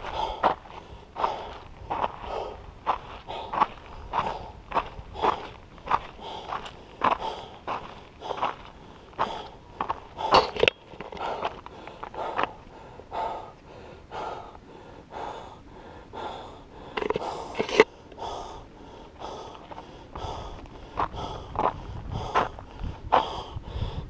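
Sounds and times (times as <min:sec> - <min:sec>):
runner breathing heavily: 0:00.0 - 0:24.0.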